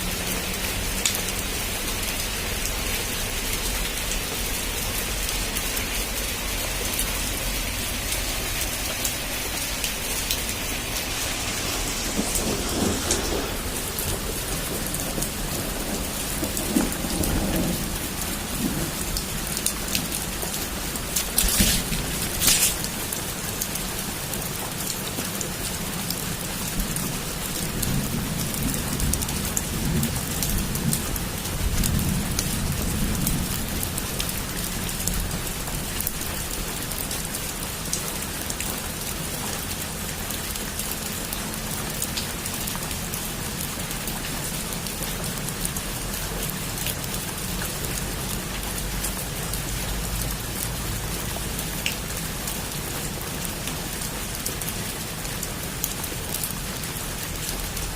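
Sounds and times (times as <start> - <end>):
heavy rain on a rooftop: 0.0 - 57.9.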